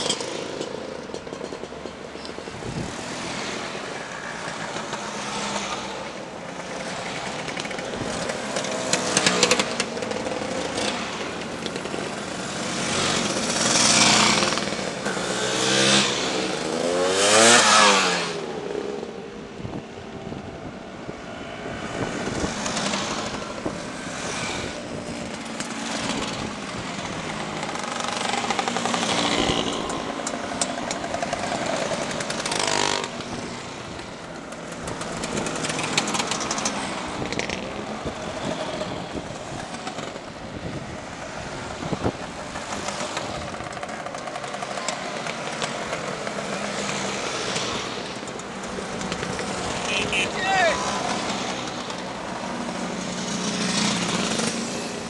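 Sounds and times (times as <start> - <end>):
motor scooters passing by: 0.0 - 55.0.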